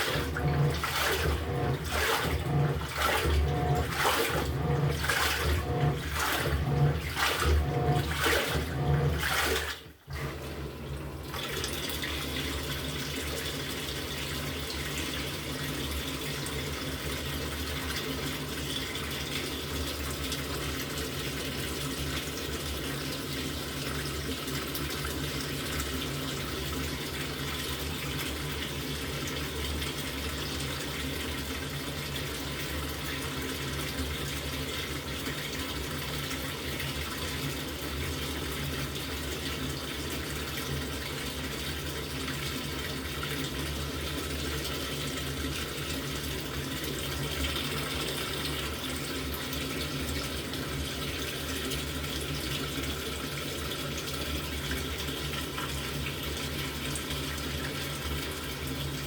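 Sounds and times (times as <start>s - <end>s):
water running into washing machine: 0.0s - 59.0s.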